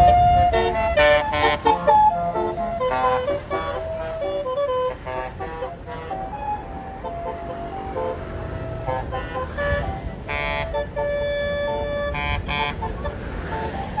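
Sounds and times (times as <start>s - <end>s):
bus engine rumbling: 0.0s - 14.0s
multi-note bus horn tune: 0.0s - 14.0s.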